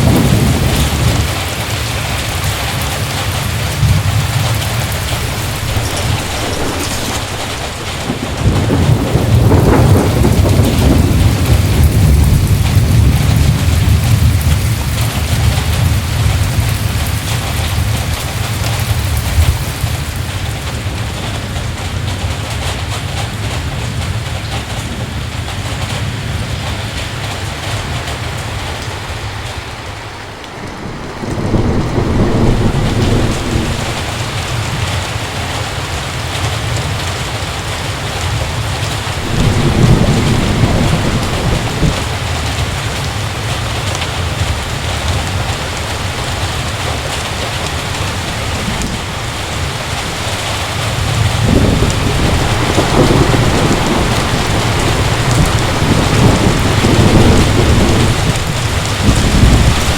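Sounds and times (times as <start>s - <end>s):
heavy rain falling: 0.0s - 59.9s
thunder rumbling: 0.0s - 59.9s.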